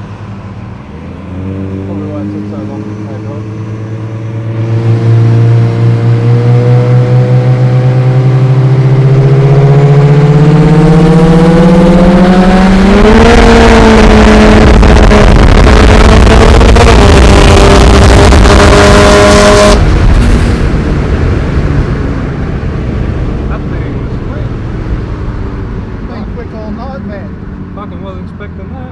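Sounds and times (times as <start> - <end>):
car engine at full throttle: 0.0 - 28.9
intake and exhaust rush: 0.0 - 28.9.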